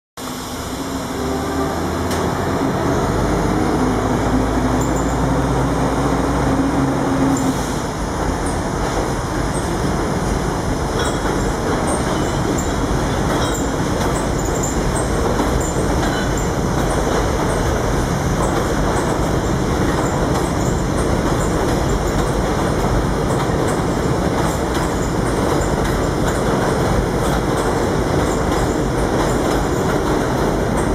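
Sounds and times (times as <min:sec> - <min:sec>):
train wheels rumbling on rail: 0:00.2 - 0:30.9.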